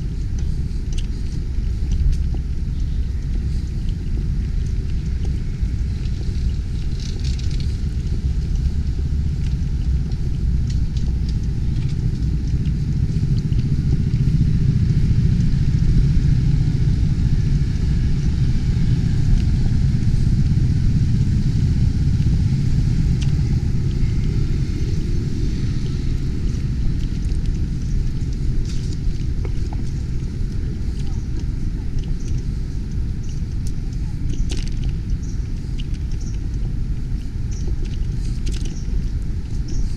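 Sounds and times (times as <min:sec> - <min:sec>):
low rumble: 0:00.0 - 0:39.9
light ticks: 0:00.2 - 0:15.8, 0:22.1 - 0:39.9.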